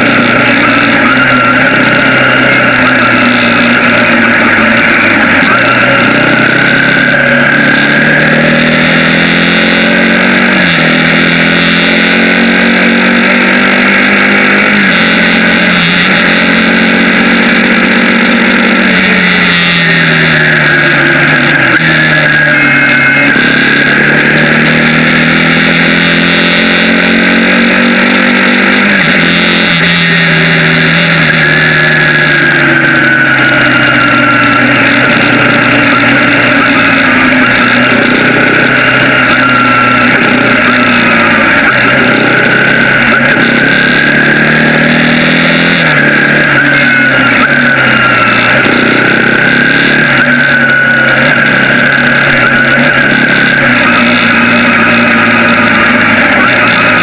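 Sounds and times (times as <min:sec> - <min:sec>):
motorcycle engine shifting gears: 0:00.0 - 0:57.0
steady rushing noise: 0:00.0 - 0:57.0.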